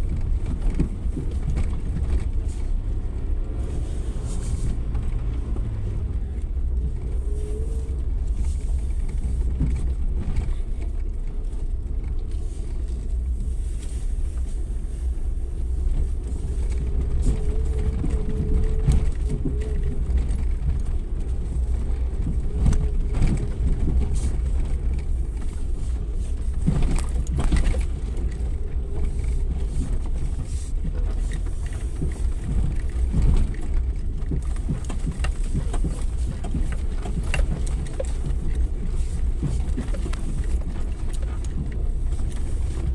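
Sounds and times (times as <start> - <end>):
engine and cabin drone: 0.0 - 42.9.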